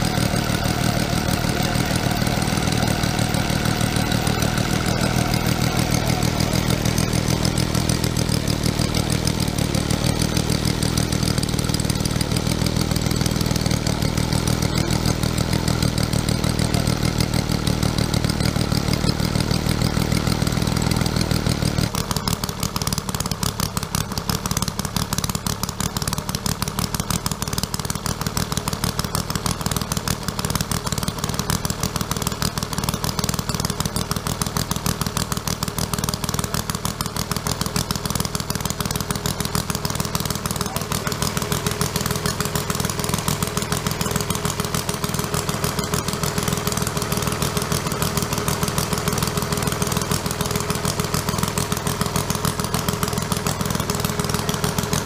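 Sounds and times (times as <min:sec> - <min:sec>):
model engine running: 0:00.0 - 0:55.0
rapid engine clatter: 0:00.0 - 0:55.0.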